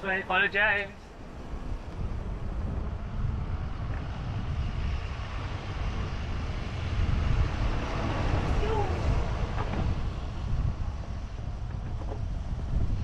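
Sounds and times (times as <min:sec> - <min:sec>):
rolling road noise: 0:00.0 - 0:13.0
wind buffeting microphone: 0:00.0 - 0:13.0.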